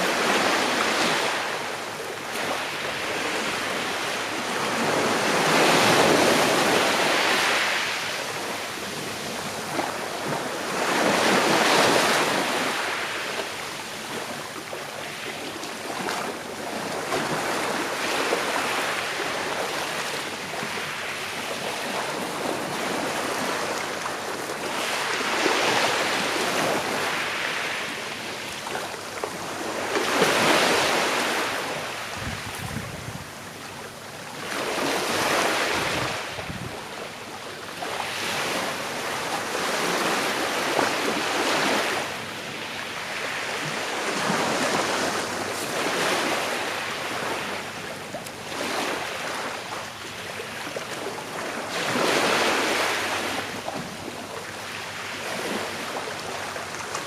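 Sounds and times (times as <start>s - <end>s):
sea waves washing onto shore: 0.0s - 57.0s.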